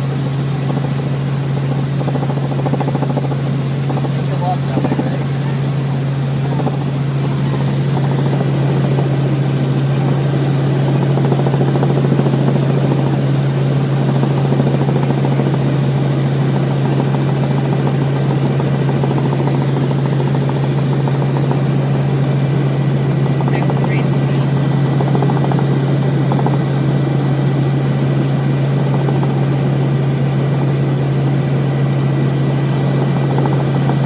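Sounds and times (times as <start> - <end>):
helicopter engine and rotors drone: 0.0 - 34.0
low hum: 0.0 - 34.0.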